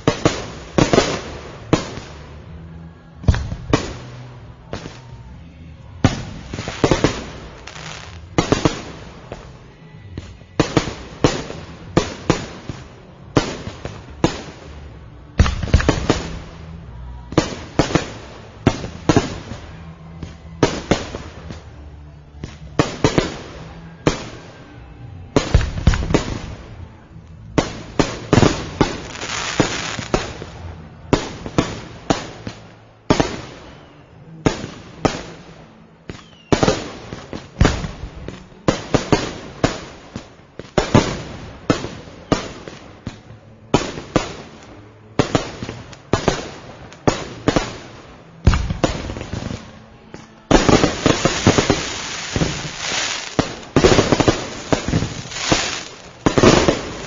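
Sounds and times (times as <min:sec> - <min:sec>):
fireworks crackle: 0:00.0 - 0:57.0
fireworks exploding: 0:00.0 - 0:57.0.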